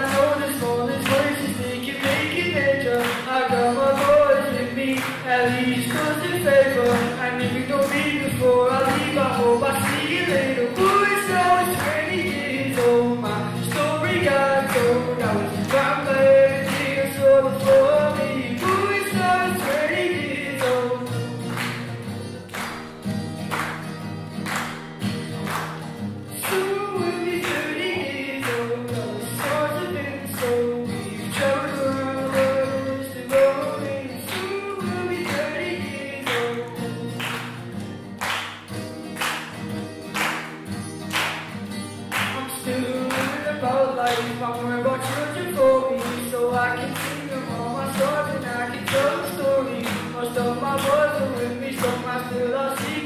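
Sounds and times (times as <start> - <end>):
man singing: 0.0 - 21.5, 26.3 - 37.2, 42.2 - 53.0
strummed acoustic guitar: 0.0 - 53.0.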